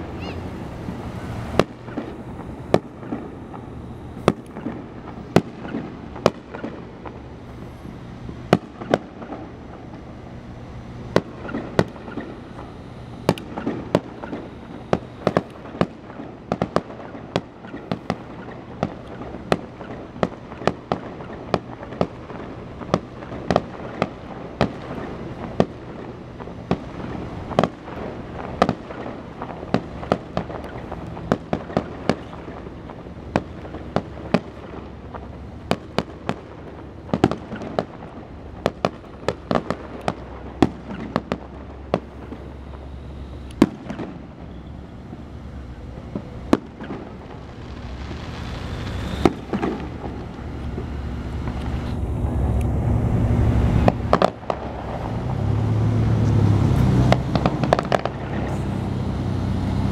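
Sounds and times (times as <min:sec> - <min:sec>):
firework shells bursting: 0:00.7 - 0:52.8, 0:53.6 - 0:55.4, 0:56.3 - 0:58.9.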